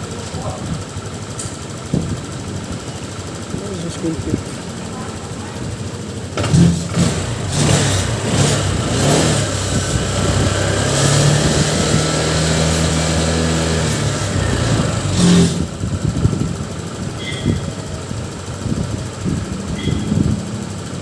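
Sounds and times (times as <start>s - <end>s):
small motorcycle engine running: 0.0s - 21.0s.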